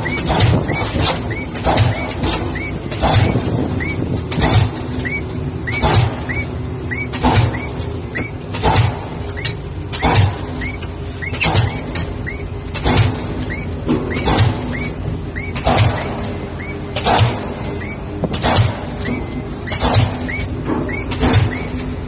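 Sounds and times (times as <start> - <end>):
short squeaks: 0.0 - 12.6, 13.4 - 22.0
pile-driving hammer blows: 0.0 - 22.0
rig engine running: 0.0 - 22.0.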